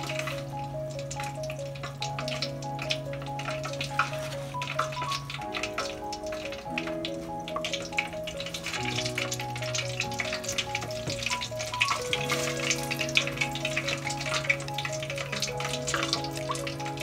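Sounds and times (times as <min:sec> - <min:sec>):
deep-frying oil crackling: 0:00.0 - 0:17.0.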